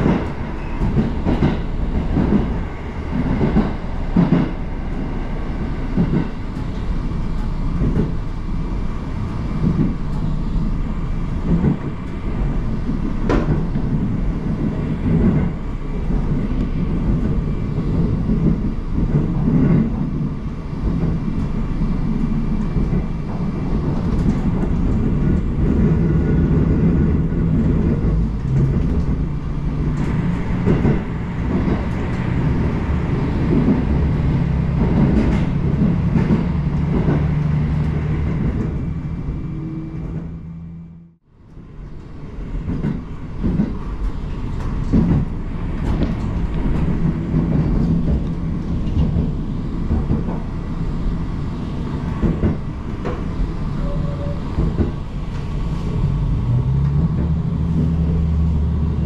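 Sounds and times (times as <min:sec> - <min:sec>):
diesel train engine drone: 0:00.0 - 0:59.0.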